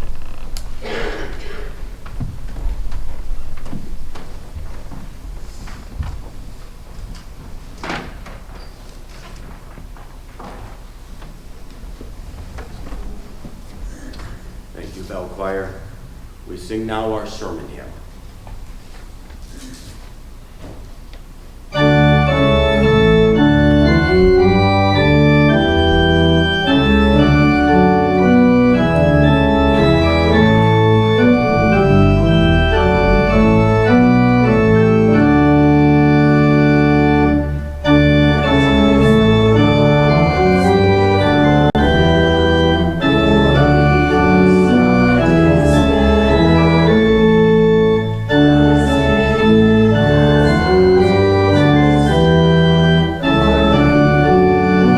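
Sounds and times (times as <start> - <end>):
church organ playing a hymn: 0.0 - 7.4, 14.5 - 18.2, 21.6 - 54.9.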